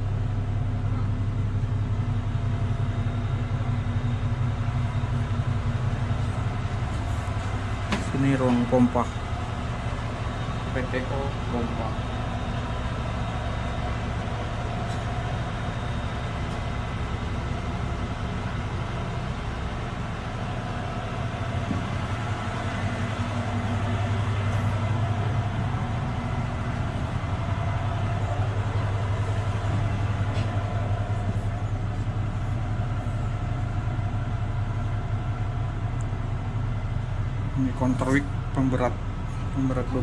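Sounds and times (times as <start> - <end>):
heavy diesel machinery droning: 0.0 - 40.0.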